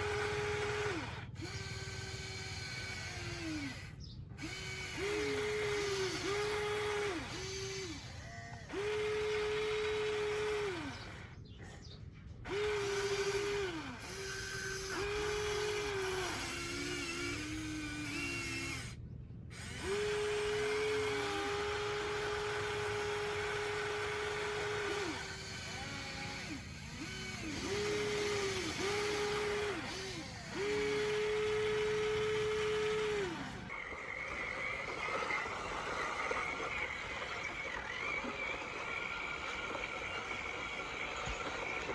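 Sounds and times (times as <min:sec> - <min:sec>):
small electric motor whining: 0:00.0 - 0:11.5, 0:12.4 - 0:41.9.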